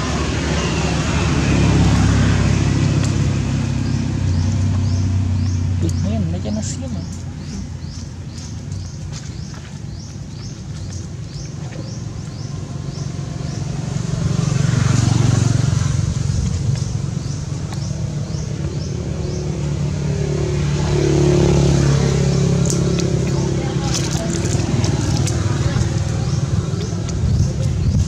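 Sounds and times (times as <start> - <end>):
engine approaching: 0.0 - 28.0
vehicle engine passing: 0.0 - 28.0.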